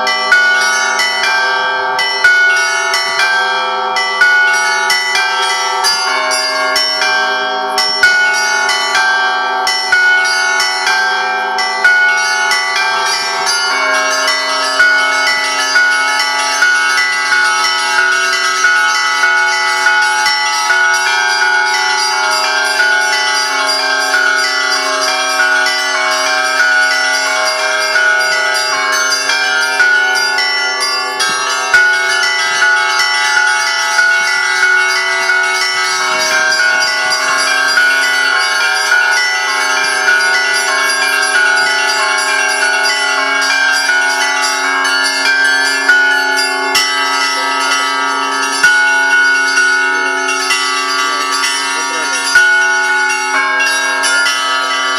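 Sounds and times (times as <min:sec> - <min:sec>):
church bells ringing a peal: 0:00.0 - 0:54.9.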